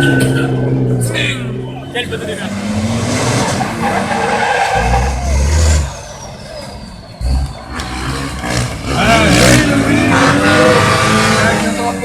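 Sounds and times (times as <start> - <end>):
car engine revving hard: 0.2 - 5.9, 7.2 - 12.0.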